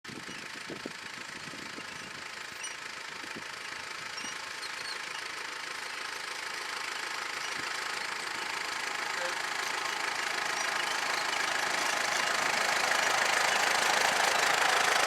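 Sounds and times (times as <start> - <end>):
engine running steadily: 0.1 - 15.0.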